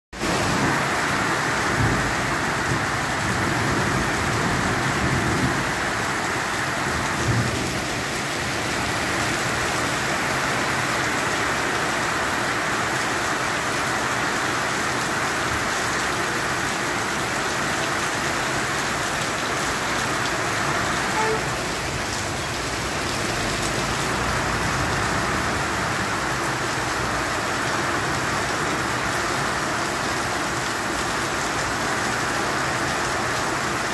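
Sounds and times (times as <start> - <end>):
heavy rain pounding on street: 0.1 - 33.9.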